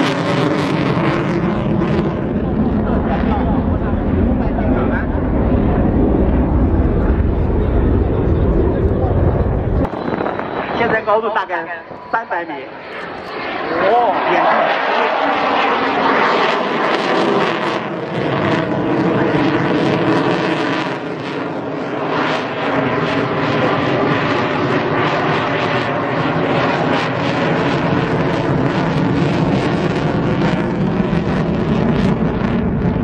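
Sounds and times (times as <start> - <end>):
fighter jet engine roaring: 0.0 - 33.0.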